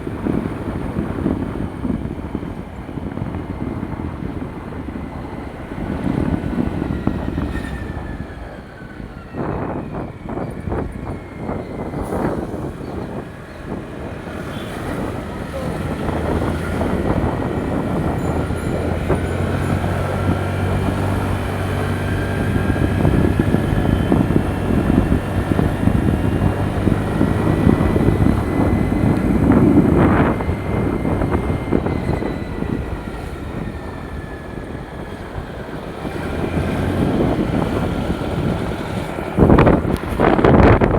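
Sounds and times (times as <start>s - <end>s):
motor scooter engine: 0.0s - 40.9s
wind noise: 0.0s - 40.9s.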